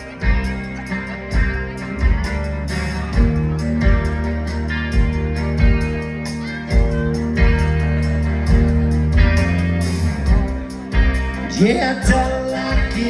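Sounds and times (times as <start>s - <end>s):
bass guitar: 0.0s - 13.0s
distorted electric guitar chords: 0.0s - 13.0s
steady drum beat: 0.0s - 13.0s.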